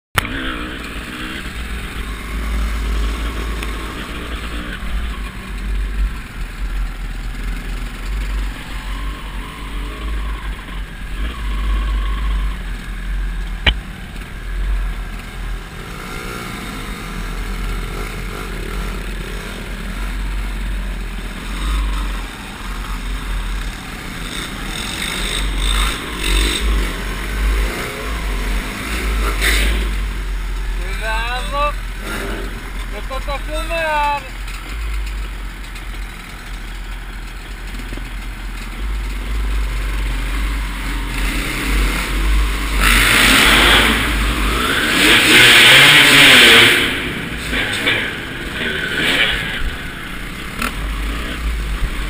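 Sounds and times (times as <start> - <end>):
dirt bike engine revving: 0.2 - 13.8, 14.8 - 36.6, 37.6 - 52.0.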